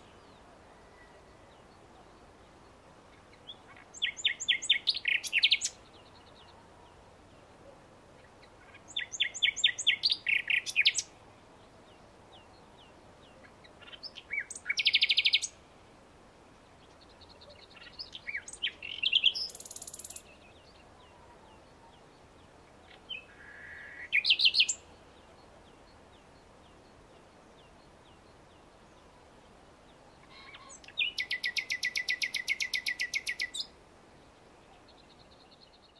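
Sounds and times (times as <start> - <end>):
nightingale singing: 0.0 - 15.7, 16.7 - 35.9.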